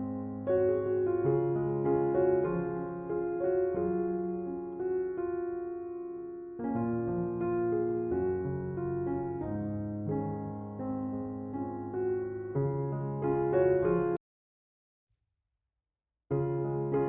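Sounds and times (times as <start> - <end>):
soft piano chords: 0.0 - 14.2, 16.3 - 17.0.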